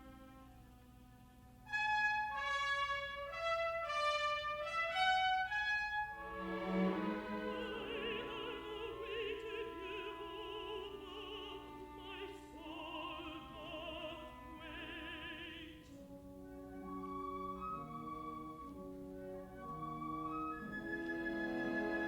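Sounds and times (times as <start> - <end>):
orchestral accompaniment: 1.6 - 22.0.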